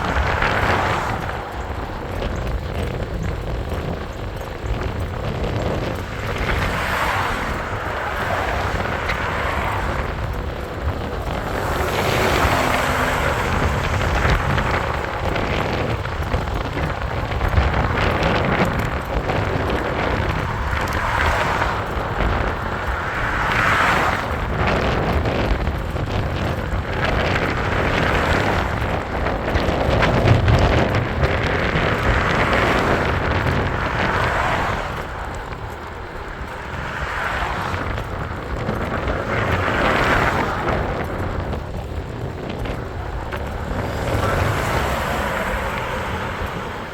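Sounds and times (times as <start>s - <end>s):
road noise hiss: 0.0s - 46.9s
wind buffeting microphone: 0.0s - 46.9s.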